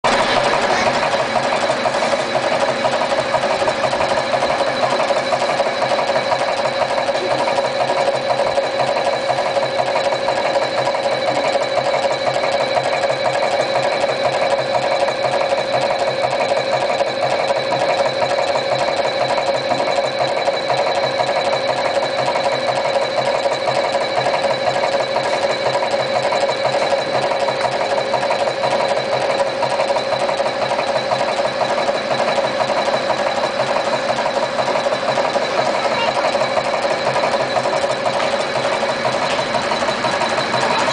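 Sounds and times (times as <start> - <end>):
wire cutting machine chattering: 0.0 - 40.9.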